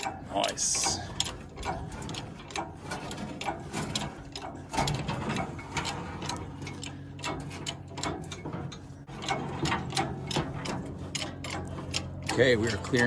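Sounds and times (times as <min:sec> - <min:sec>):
hoist chain clicking and clanking: 0:00.0 - 0:13.0
low steady hum: 0:00.0 - 0:13.0
metal ratcheting: 0:00.0 - 0:13.0.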